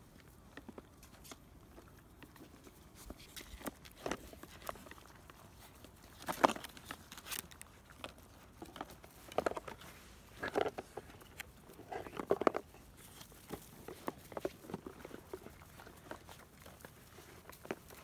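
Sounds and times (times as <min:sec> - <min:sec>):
puppies eating from plastic bowls: 0:00.0 - 0:18.0.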